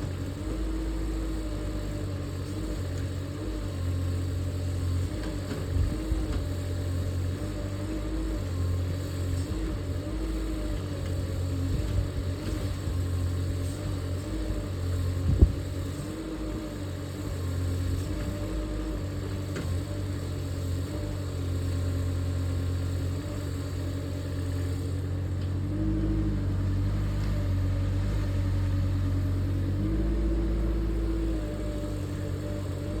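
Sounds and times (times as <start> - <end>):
mini excavator engine running: 0.0 - 33.0.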